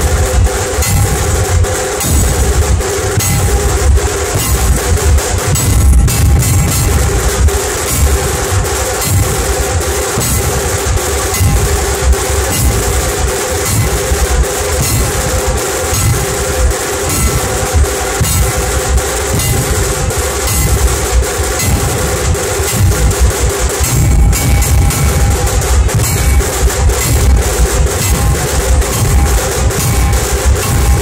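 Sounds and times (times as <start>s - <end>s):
dhol drums beating: 0.0s - 31.0s
tasha drums cracking: 0.0s - 31.0s.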